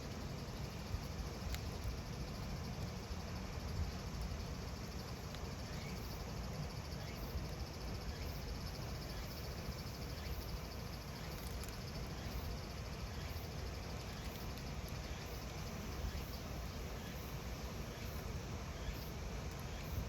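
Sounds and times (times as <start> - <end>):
cicadas singing: 0.0 - 20.0.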